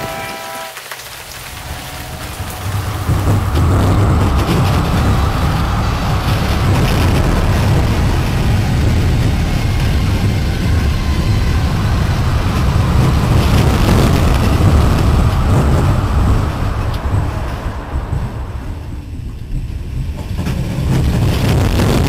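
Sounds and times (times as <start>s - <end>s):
strong wind with low rumble: 1.2s - 22.0s.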